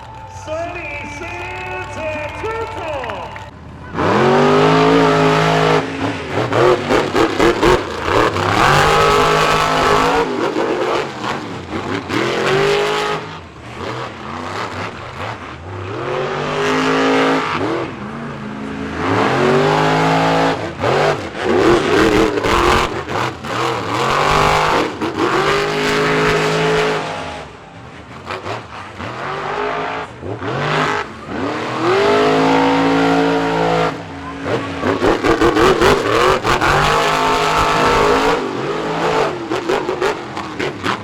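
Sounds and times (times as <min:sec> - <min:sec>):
monster truck engines revving: 0:00.0 - 0:41.0
stuttering throttle blips: 0:00.0 - 0:41.0.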